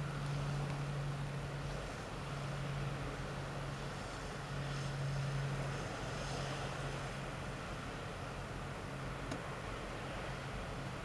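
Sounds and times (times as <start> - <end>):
ship machinery hum: 0.0 - 11.0.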